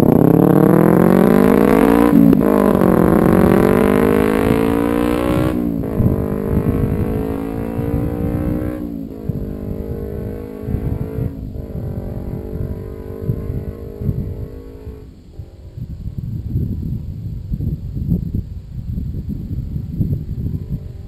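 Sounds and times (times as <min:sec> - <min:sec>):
motorcycle engine accelerating hard: 0:00.0 - 0:18.4.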